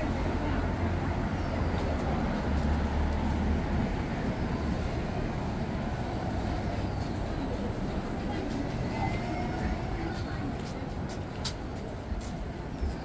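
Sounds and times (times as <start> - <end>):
road traffic noise: 0.0 - 13.0
vehicle engine rumble: 0.0 - 13.0.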